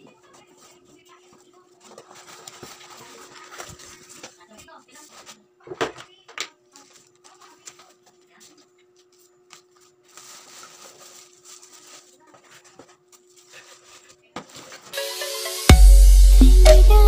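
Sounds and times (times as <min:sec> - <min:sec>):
plastic bag rustling: 0:00.0 - 0:05.8, 0:06.7 - 0:15.0.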